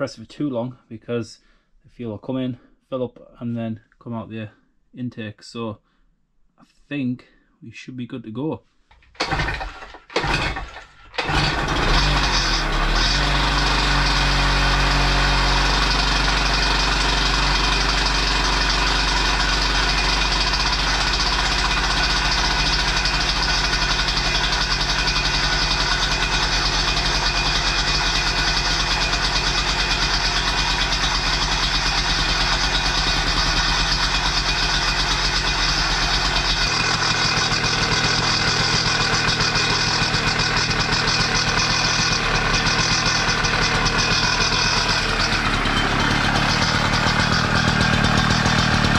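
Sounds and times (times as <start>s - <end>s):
two-stroke engine running: 9.2s - 48.9s.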